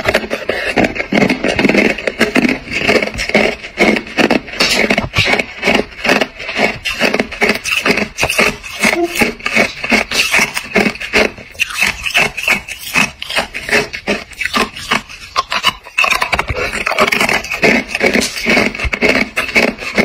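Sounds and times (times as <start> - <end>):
ice being chewed and crunched: 0.0 - 20.0.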